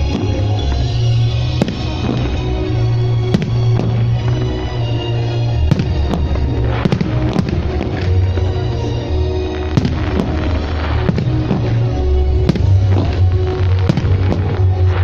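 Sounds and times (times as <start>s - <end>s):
fireworks bursting: 0.0s - 15.0s
loud music with heavy bass: 0.0s - 15.0s.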